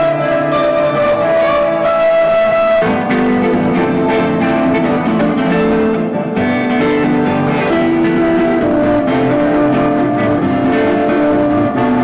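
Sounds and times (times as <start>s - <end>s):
instrumental guitar music: 0.0s - 12.0s.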